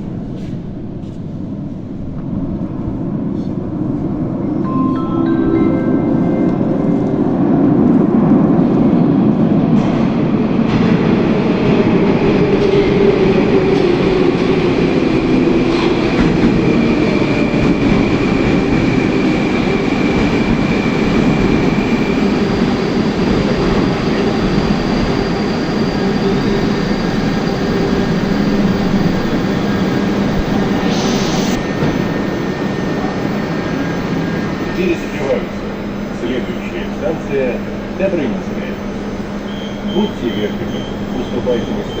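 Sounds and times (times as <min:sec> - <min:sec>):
metro train rumbling: 0:00.0 - 0:42.0.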